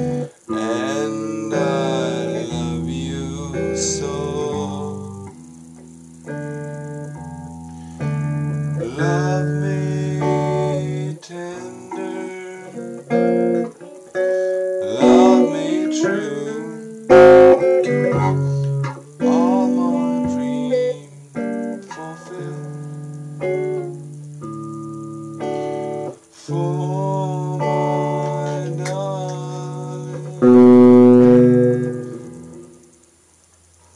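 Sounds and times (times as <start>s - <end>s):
electric guitar playing: 0.0s - 33.8s.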